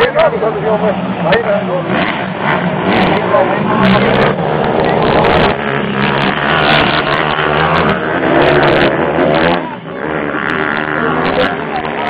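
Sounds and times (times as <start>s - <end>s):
motocross motorcycle engines revving: 0.0s - 12.0s.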